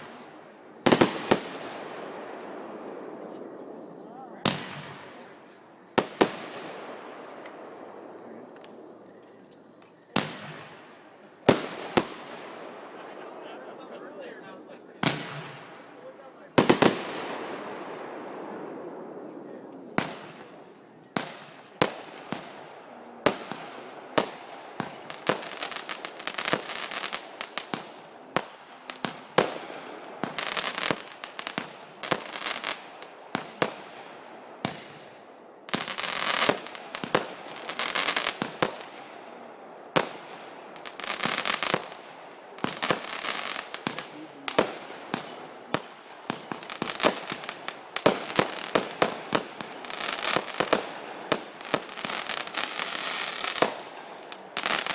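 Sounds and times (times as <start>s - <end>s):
fireworks banging: 0.0s - 54.9s
fireworks crackling: 0.0s - 54.9s.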